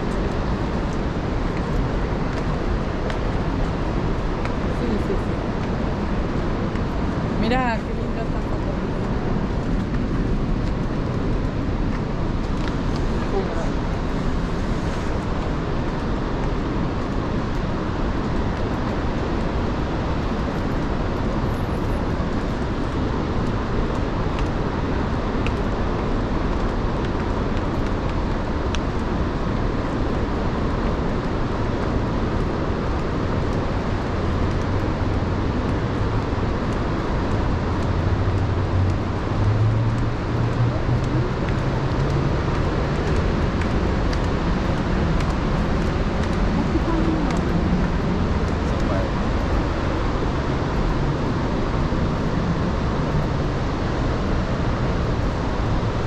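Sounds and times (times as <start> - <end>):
low engine hum: 0.0 - 56.0
vehicle road noise: 0.0 - 56.0.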